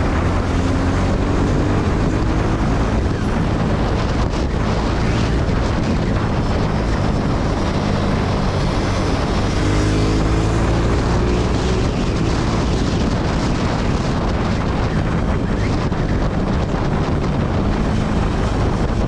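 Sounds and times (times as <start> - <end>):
motorcycle engine running: 0.0 - 19.0
wind on microphone: 0.0 - 19.0.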